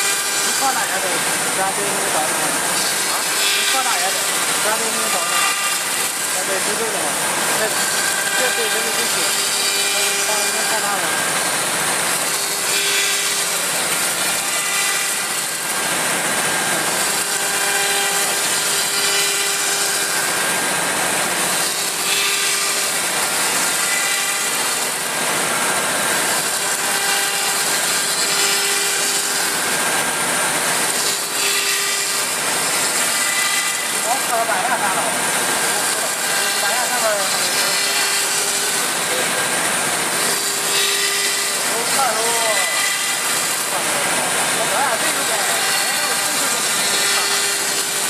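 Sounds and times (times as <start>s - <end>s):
router spindle whining and cutting: 0.0s - 48.0s.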